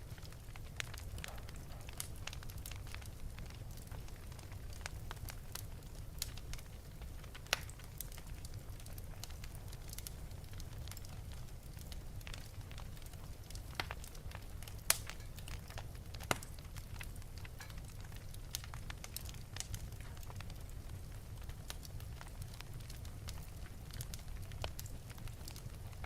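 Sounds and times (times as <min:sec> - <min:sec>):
fire crackles and pops: 0:00.0 - 0:26.0
low rumble of flame: 0:00.0 - 0:26.0.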